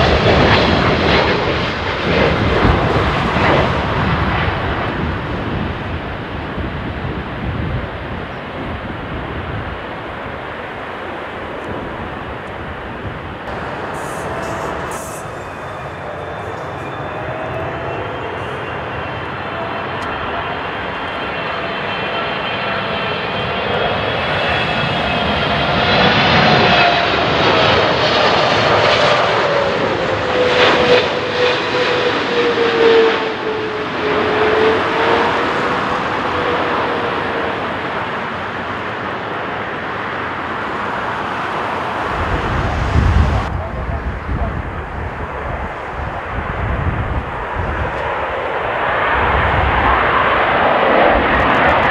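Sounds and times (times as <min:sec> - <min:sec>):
jet engines whining overhead: 0:00.0 - 0:51.9.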